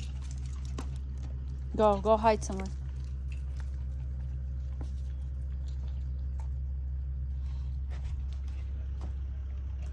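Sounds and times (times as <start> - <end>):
low motor hum: 0.0 - 9.9.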